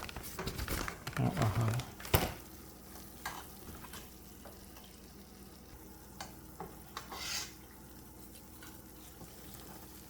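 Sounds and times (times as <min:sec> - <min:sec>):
water bubbling in pot: 0:00.0 - 0:10.0.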